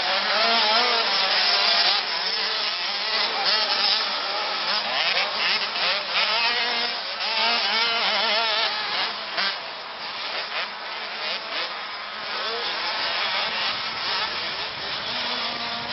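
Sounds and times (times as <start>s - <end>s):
motocross bike engines revving: 0.0s - 15.9s.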